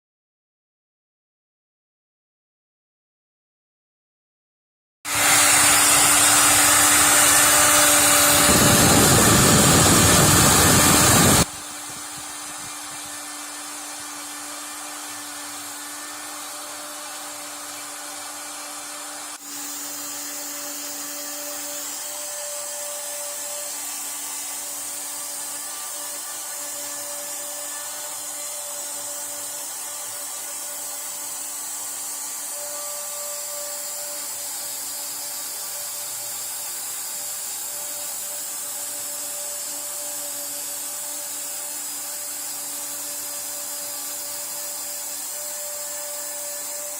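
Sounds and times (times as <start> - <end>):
router spindle whining: 5.1 - 46.9.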